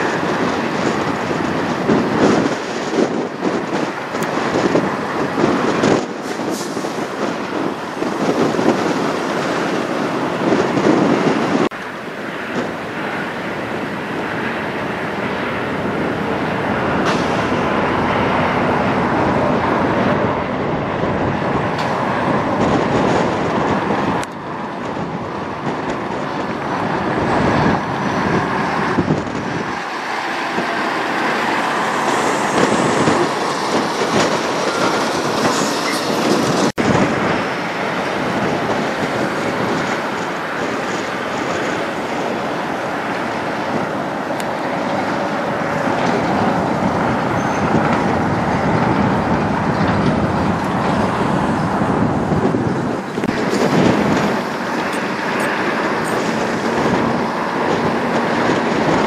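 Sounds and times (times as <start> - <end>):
truck diesel engines: 0.0 - 59.0
tyres rolling on pavement: 0.0 - 59.0.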